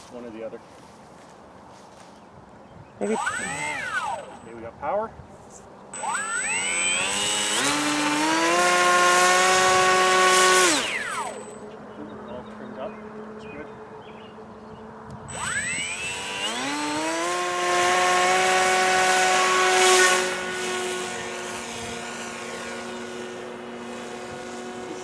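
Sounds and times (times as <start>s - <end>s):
electric motor and propeller whine: 3.0s - 25.0s.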